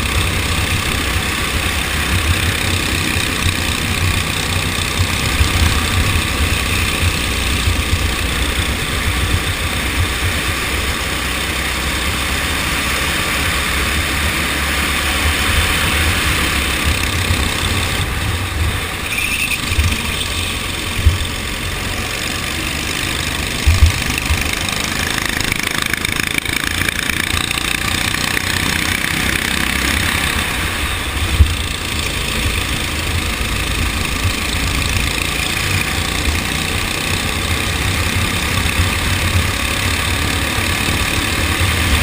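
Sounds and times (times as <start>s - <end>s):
kart engine running: 0.0s - 42.0s.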